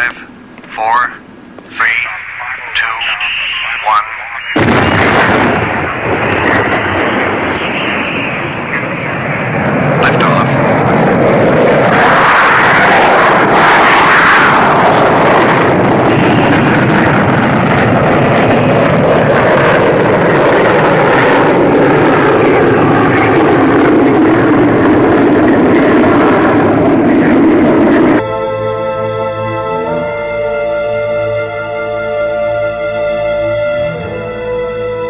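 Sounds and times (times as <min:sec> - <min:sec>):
rocket engines roaring: 0:00.0 - 0:35.0.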